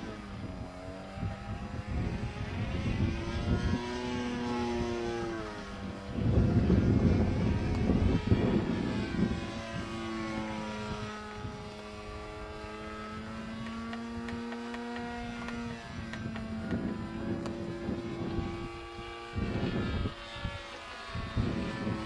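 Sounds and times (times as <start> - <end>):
propeller plane droning overhead: 0.0 - 22.0
wind rumbling on microphone: 0.0 - 22.0.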